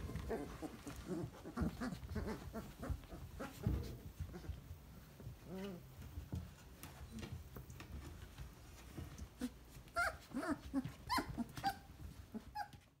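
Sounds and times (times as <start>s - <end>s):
faint rustling and knocks: 0.0s - 13.0s.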